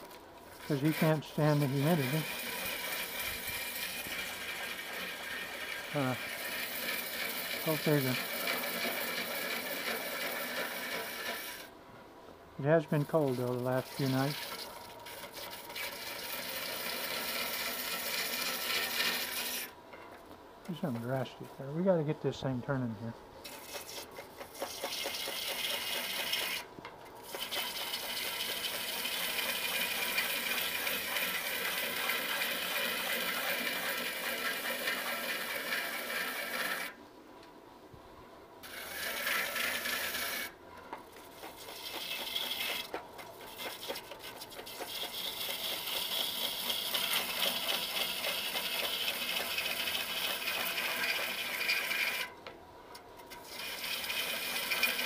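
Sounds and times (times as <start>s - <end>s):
gouge cutting wood on lathe: 0.5s - 11.7s, 12.9s - 19.7s, 23.4s - 37.0s, 38.6s - 40.6s, 41.4s - 52.3s, 53.4s - 55.0s.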